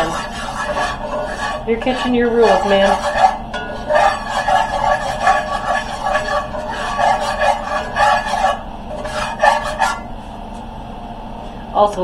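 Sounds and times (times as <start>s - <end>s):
utensil scraping a skillet: 0.0s - 10.4s.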